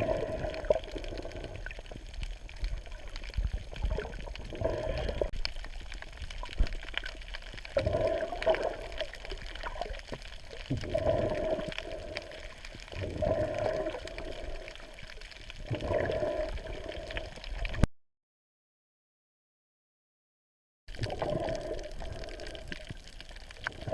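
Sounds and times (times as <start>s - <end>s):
water gurgling and sloshing: 0.0s - 17.9s, 20.9s - 23.9s.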